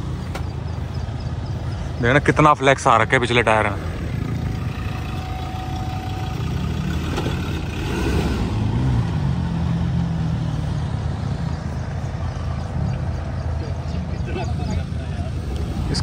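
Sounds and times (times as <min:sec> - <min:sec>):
diesel engine running at low revs: 0:00.0 - 0:16.0.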